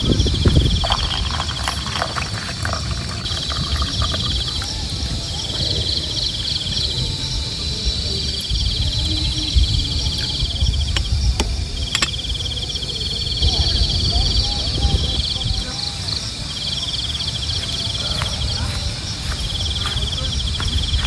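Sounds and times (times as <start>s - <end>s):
higher insect chirping: 0.0s - 21.0s
insects trilling: 0.0s - 21.0s.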